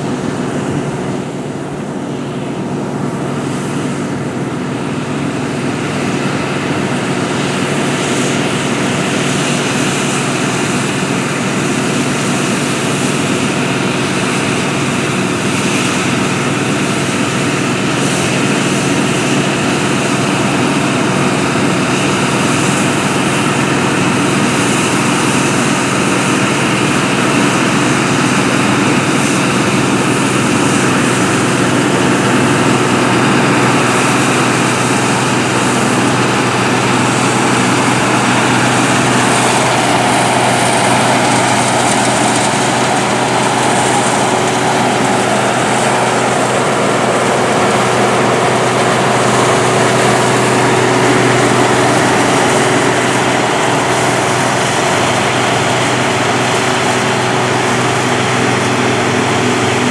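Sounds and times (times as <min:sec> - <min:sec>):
combine harvester humming: 0:00.0 - 0:59.9.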